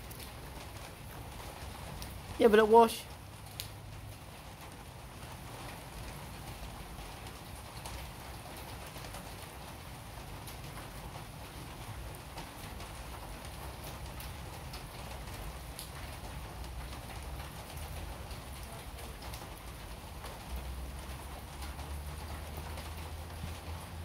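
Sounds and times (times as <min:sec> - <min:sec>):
rain pattering on wet paving: 0:00.0 - 0:24.0.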